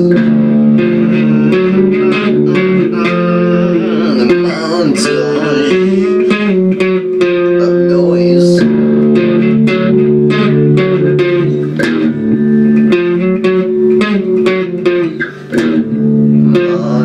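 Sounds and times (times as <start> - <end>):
guitar riff: 0.0 - 17.0.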